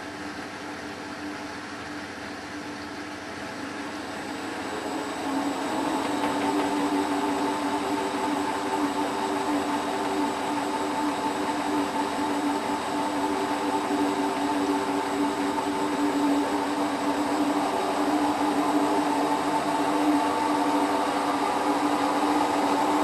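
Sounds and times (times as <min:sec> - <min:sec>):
motor whine: 0:03.4 - 0:23.0
washing machine fast spin: 0:03.4 - 0:23.0.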